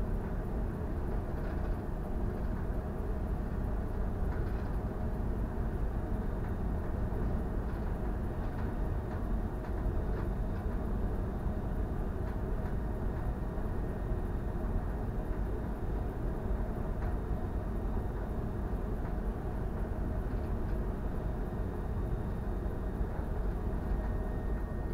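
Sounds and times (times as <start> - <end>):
faint steady hum tones: 0.0 - 24.9.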